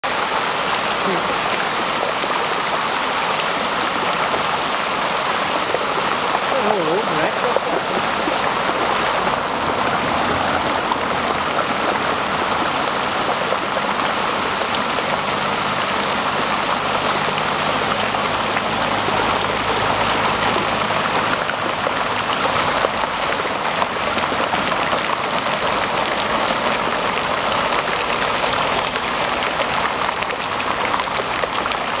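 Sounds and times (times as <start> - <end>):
floodwater rushing across road: 0.0 - 32.0.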